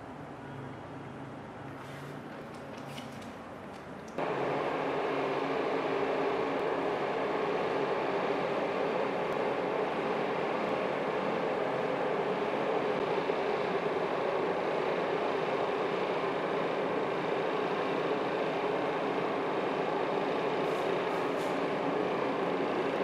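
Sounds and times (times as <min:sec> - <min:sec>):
ventilation machinery whirring: 0:01.2 - 0:23.0.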